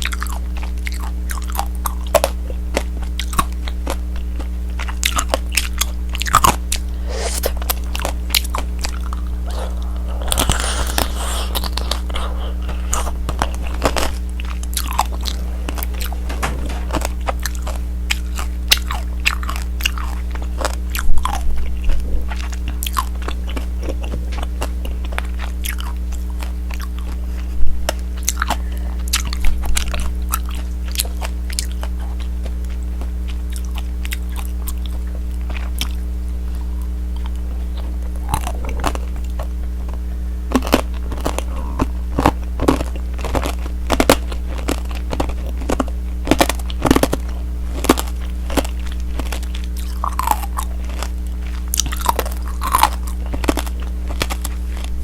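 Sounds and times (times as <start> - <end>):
candy shell crunching: 0.0 - 27.2, 37.2 - 55.0
soft chewing: 0.0 - 55.0
steady low hum: 0.0 - 55.0.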